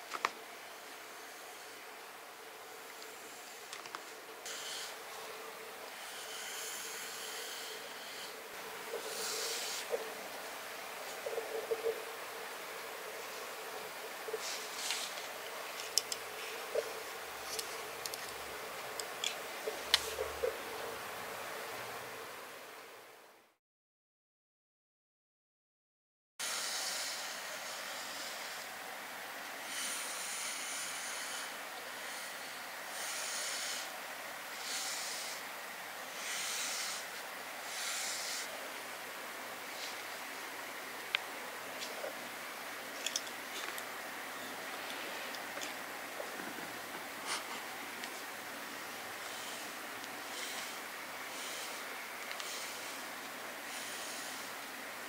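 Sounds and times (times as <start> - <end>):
steady hiss: 0.0 - 23.6, 26.4 - 55.0.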